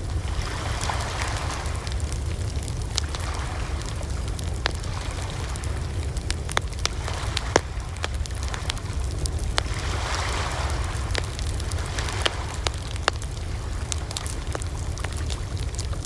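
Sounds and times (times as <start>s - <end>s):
campfire wood crackling: 0.0s - 16.0s
low fire rumble: 0.0s - 16.0s
sharp fire pops: 0.0s - 16.0s.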